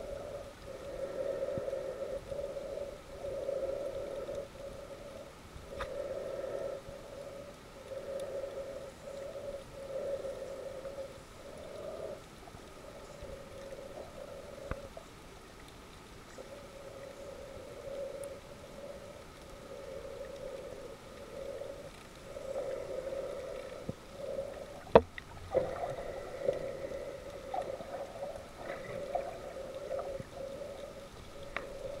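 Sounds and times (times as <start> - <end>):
muffled underwater hum: 0.0 - 32.0.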